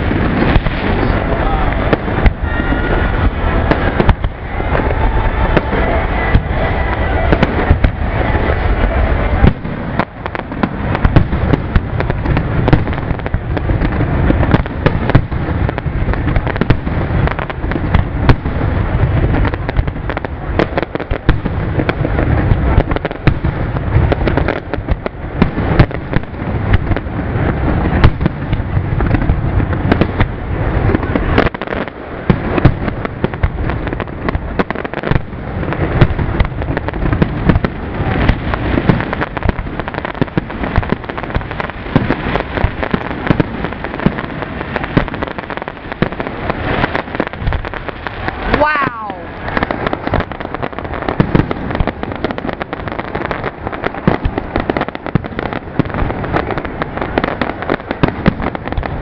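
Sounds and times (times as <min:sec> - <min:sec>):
fireworks booming and cracking: 0:00.0 - 0:59.0.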